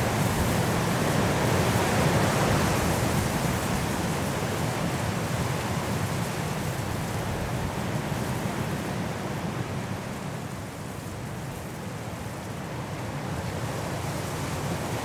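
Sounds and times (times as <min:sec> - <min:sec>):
high winds through trees: 0:00.0 - 0:15.0.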